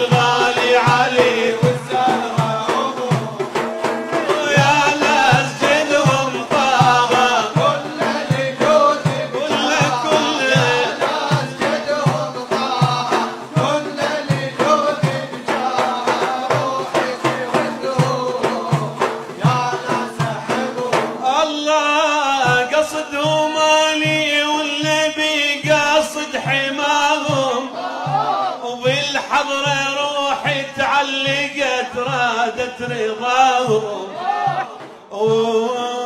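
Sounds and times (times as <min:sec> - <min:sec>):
frame drums beating: 0:00.0 - 0:35.7
men singing devotional chant: 0:00.0 - 0:36.0.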